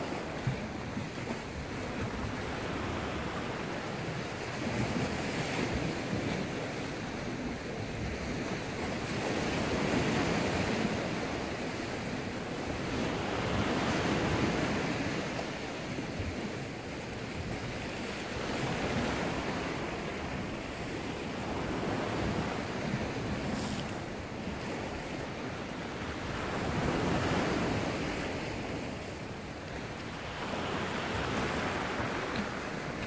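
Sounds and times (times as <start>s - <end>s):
rough sea washing against rocks: 0.0s - 33.0s
wind buffeting microphone: 0.0s - 33.0s.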